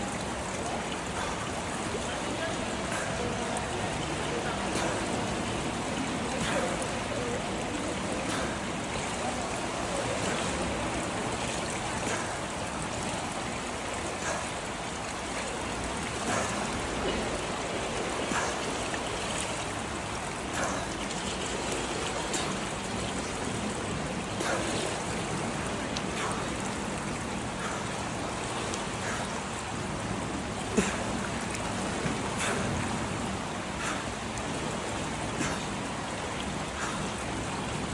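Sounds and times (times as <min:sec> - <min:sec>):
pool water noise: 0:00.0 - 0:37.9
water splashing and sloshing: 0:00.0 - 0:37.9.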